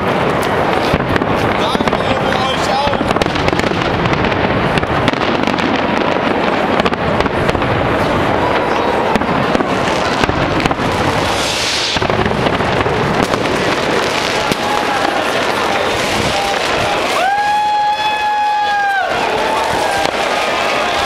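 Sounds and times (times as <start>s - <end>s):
fireworks bangs and crackling: 0.0s - 21.0s
rocket hissing rush: 0.6s - 21.0s.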